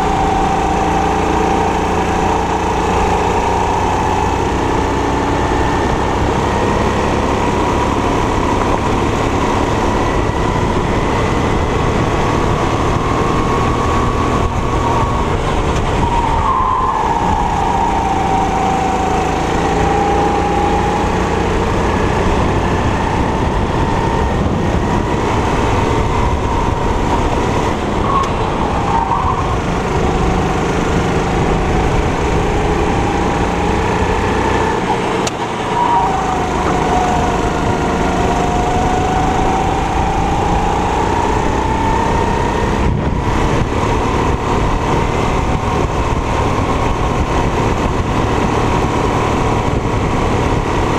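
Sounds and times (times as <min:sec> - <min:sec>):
kart engine running hard: 0:00.0 - 0:50.9
wind on microphone: 0:00.0 - 0:50.9.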